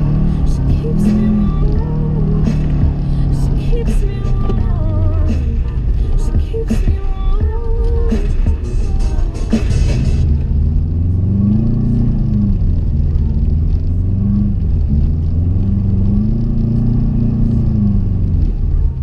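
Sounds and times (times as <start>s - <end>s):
car engine droning while driving: 0.0s - 19.0s.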